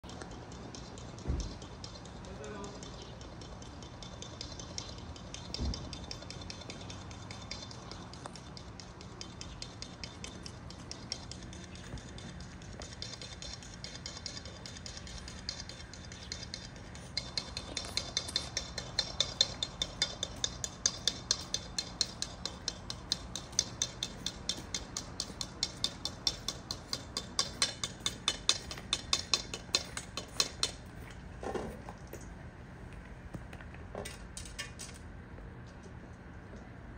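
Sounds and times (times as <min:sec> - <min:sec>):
dry cat food rattling in bowl: 0:00.1 - 0:30.9.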